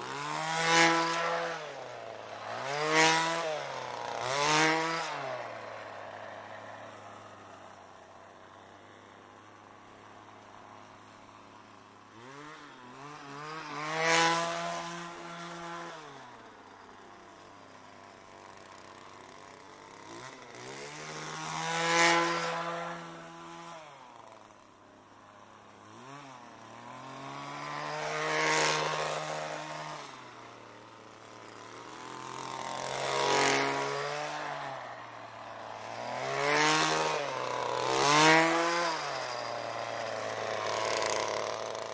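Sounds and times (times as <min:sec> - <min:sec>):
weedwacker engine revving: 0:00.0 - 0:41.9.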